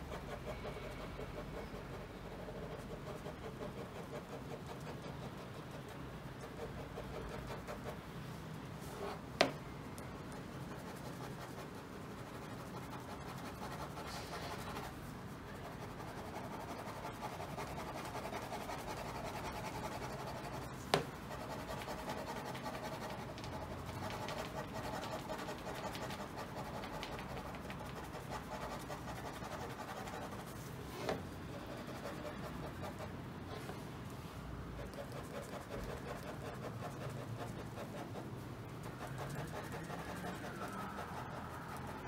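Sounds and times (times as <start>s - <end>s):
pen scratching on paper: 0.0s - 8.1s, 10.2s - 33.8s, 34.7s - 42.0s.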